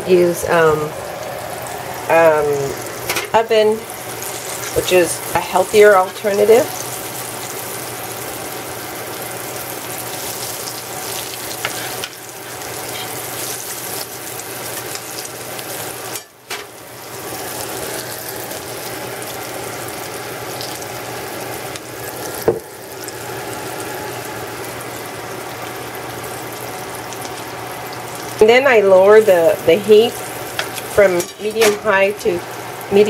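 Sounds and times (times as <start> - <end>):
oil sizzling and bubbling: 0.0 - 33.0.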